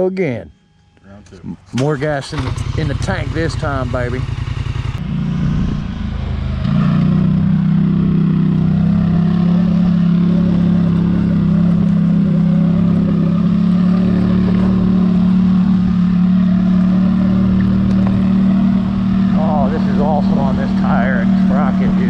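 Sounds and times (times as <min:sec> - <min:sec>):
atv engine running: 0:01.8 - 0:22.0.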